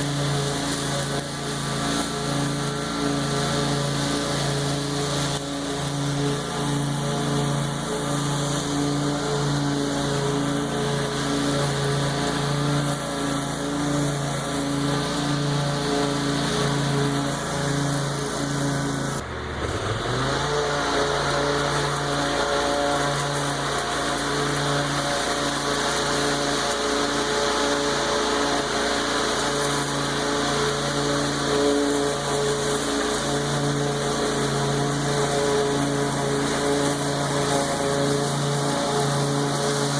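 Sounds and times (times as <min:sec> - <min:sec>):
lawn mower engine cutting grass: 0:00.0 - 0:39.9.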